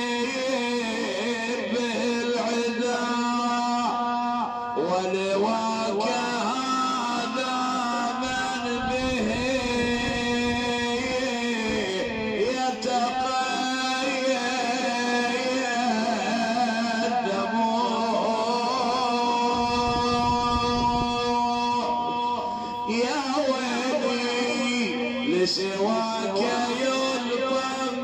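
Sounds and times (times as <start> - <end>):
man chanting mournful elegy: 0.0 - 28.0.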